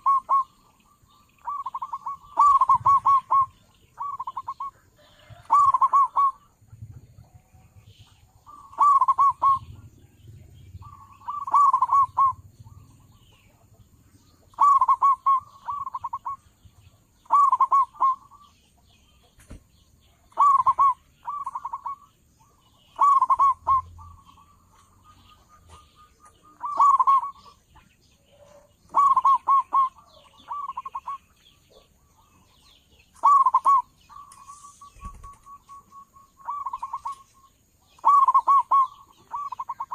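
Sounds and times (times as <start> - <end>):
dove cooing: 0.0 - 13.8, 14.4 - 18.5, 20.1 - 39.9.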